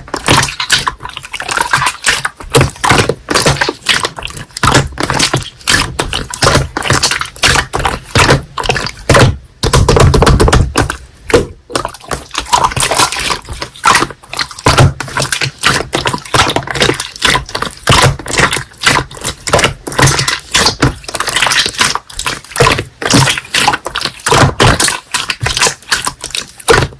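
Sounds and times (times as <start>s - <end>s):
heavy slime squelch: 0.0s - 26.9s.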